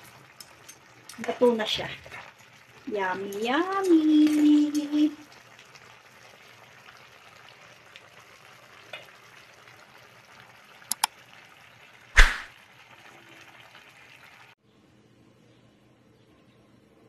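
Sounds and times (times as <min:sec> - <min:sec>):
stew bubbling in a pan: 0:00.0 - 0:14.6.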